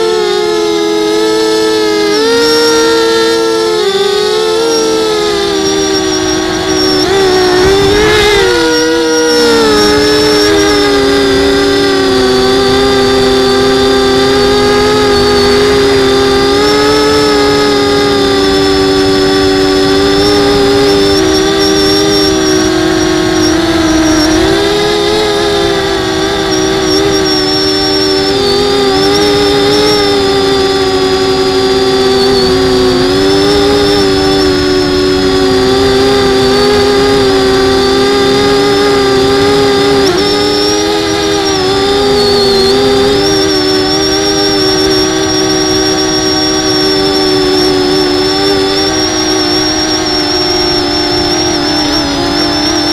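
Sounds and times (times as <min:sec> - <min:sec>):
quadcopter propellers whining: 0:00.0 - 0:52.9.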